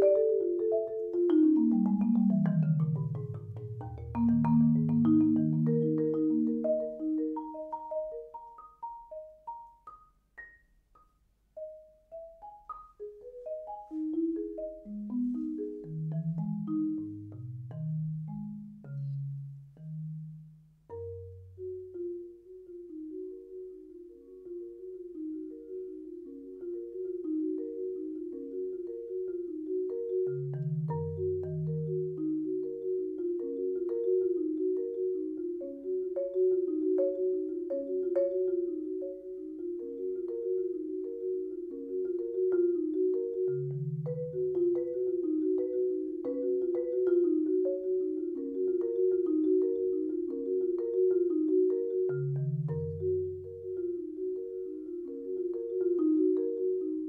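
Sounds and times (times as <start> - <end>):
marimba repeated notes: 0.0 - 57.0.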